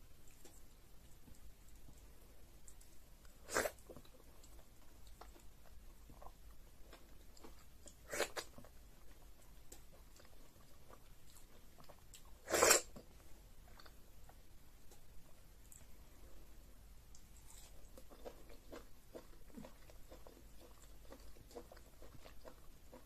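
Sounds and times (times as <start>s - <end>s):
soft chewing with mouth clicks: 0.0s - 23.0s.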